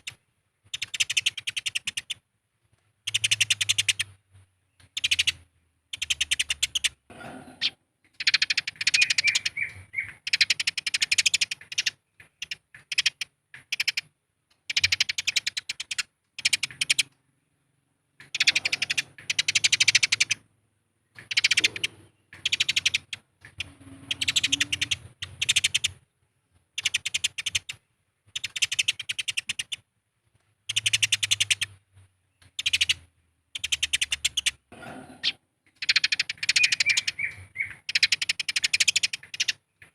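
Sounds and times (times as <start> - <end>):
sparrows chirping: 0.0 - 2.2, 3.0 - 29.9, 30.6 - 39.9.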